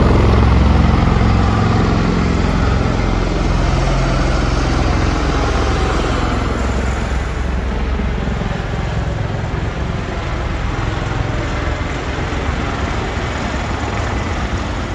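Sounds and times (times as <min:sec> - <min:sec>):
aircraft rotors and engines droning: 0:00.0 - 0:14.9.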